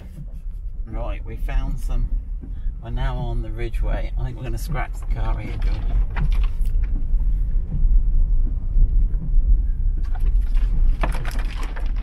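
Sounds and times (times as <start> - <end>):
vehicle rumbling on dirt track: 0.0 - 12.0.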